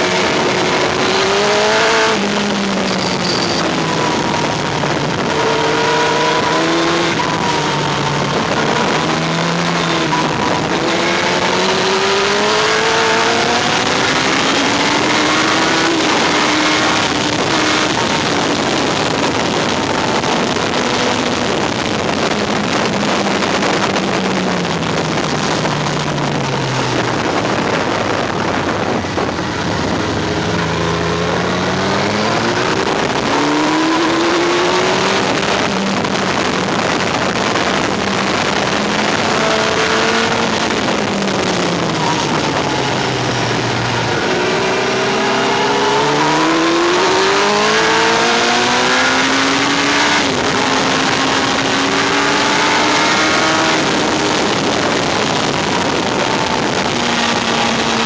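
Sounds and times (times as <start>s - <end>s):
motorcycle engine revving through gears: 0.0s - 58.0s
wind rush on microphone: 0.0s - 58.0s.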